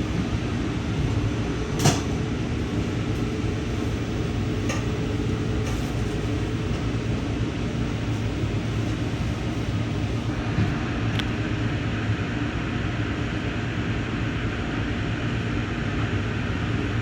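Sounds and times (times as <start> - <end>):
train car running rumble: 0.0 - 17.0.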